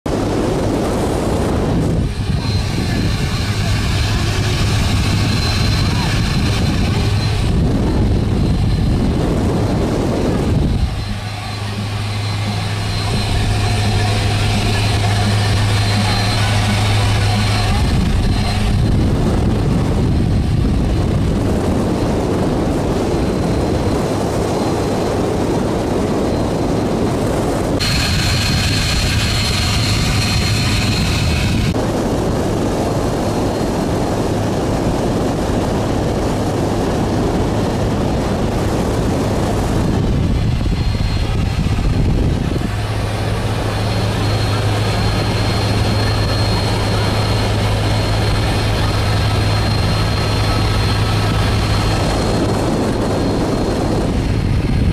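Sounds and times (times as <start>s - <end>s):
wind: 0.0s - 54.9s
boat diesel engine running: 0.1s - 54.9s
high steady engine whine: 0.1s - 54.9s.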